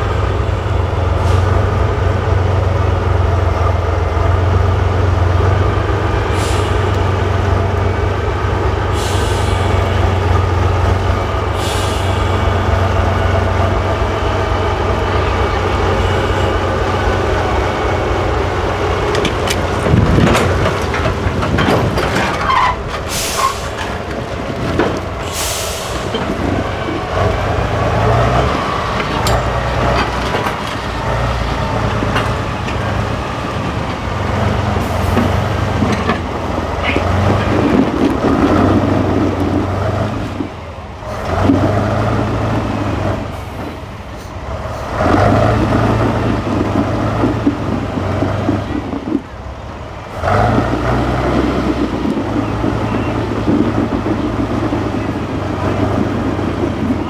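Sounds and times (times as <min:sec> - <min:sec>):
truck diesel engine revving: 0:00.0 - 0:49.4, 0:50.0 - 0:57.0.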